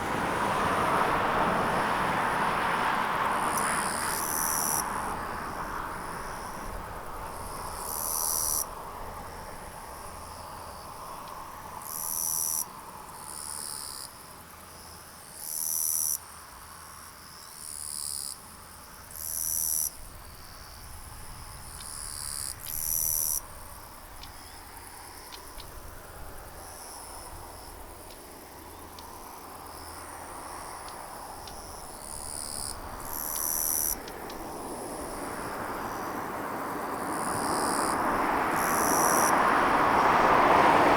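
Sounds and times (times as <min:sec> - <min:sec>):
insects calling: 0:00.2 - 0:40.9.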